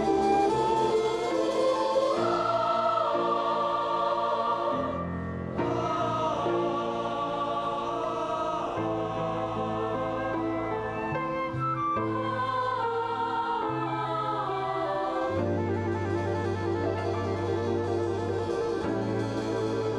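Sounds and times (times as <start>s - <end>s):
choir singing: 0.0s - 19.9s.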